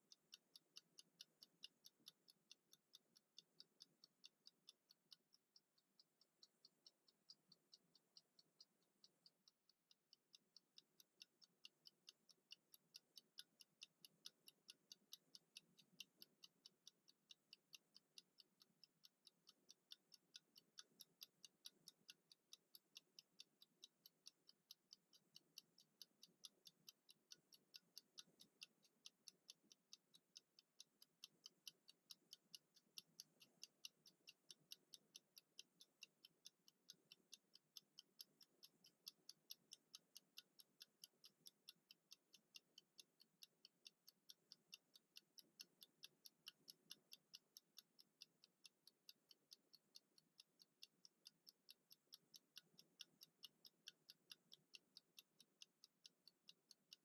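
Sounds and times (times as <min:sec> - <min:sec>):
kitchen timer ticking: 0:00.0 - 0:57.0.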